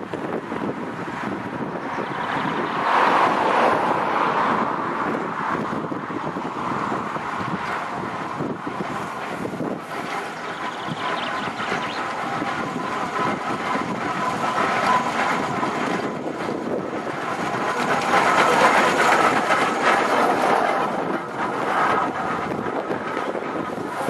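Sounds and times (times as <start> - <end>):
steam road tractor passing: 0.0 - 24.0.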